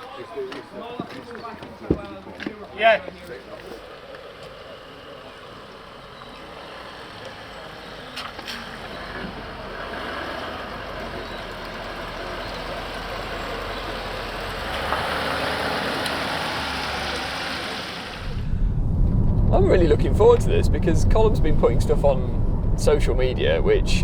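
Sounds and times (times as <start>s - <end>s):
vehicle running: 3.4s - 24.0s.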